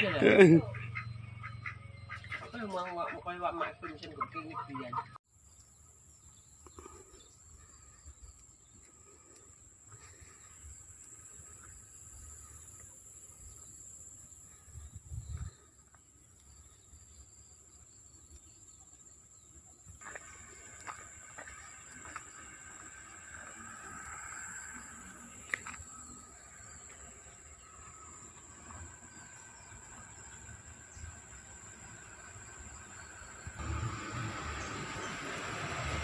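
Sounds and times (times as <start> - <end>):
insects chirring: 5.3 - 36.0.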